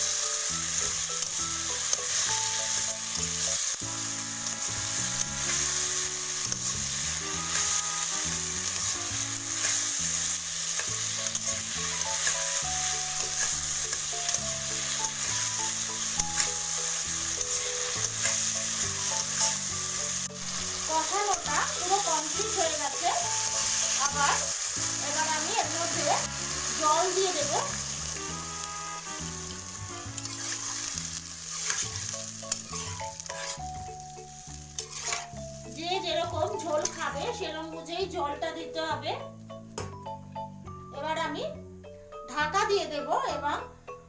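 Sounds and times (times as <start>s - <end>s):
paste sizzling in hot oil: 0.0s - 38.5s
soft background music: 0.0s - 44.0s.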